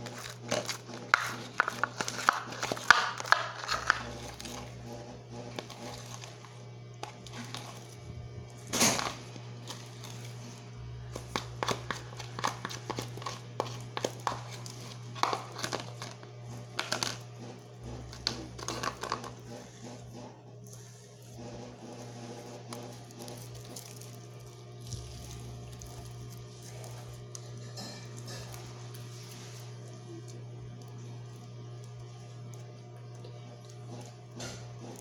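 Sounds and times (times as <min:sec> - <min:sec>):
crinkling and clicking handling noises: 0:00.0 - 0:35.0
steady low hum: 0:00.0 - 0:35.0.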